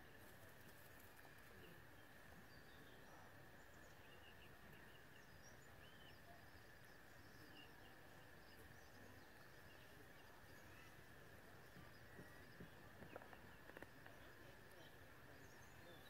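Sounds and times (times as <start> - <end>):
faint background hiss: 0.0 - 16.0
faint bird chirps: 0.0 - 16.0.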